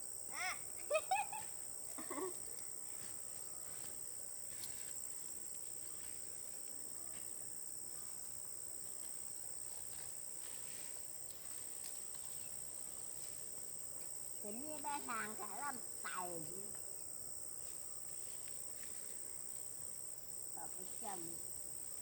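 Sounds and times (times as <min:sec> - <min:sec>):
insects chorus: 0:00.0 - 0:22.0
faint ticks and rustles: 0:01.4 - 0:22.0.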